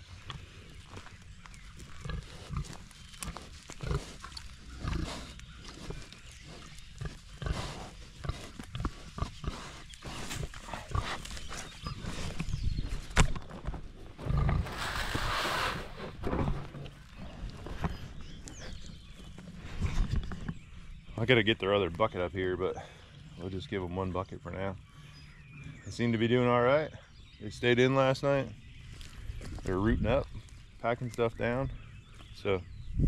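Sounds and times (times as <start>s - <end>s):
pigs grunting and snuffling: 0.0s - 32.8s.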